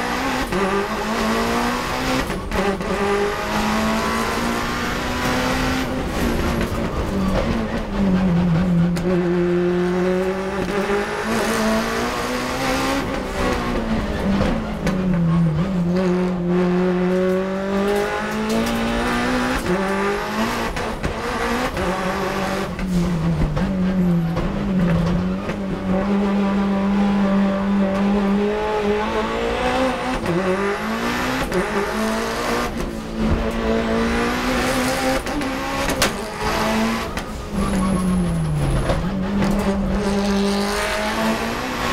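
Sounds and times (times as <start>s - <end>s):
racing car engine revving: 0.0s - 41.9s.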